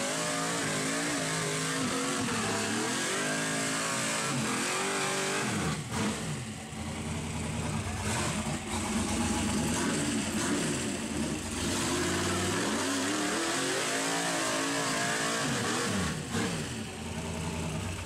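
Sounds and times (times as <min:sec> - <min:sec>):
buggy engine revving hard: 0:00.0 - 0:18.0.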